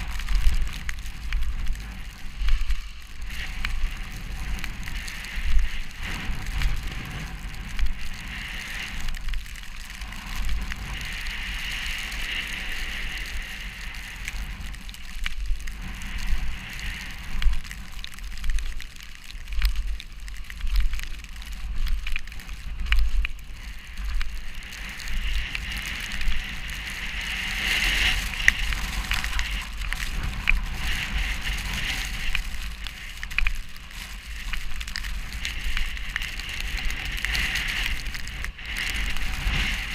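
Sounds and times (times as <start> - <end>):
crackly hiss: 0.0 - 39.9
wind buffeting microphone: 0.0 - 39.9.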